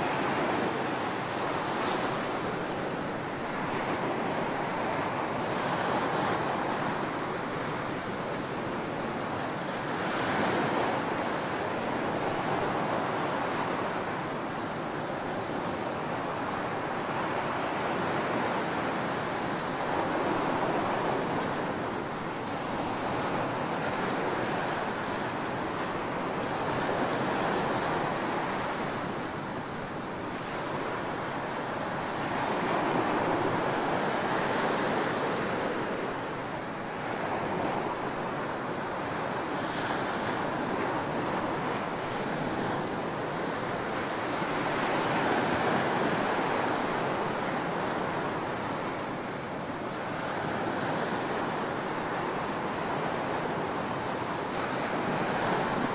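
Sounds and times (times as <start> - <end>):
ocean surf breaking on beach: 0.0 - 55.9.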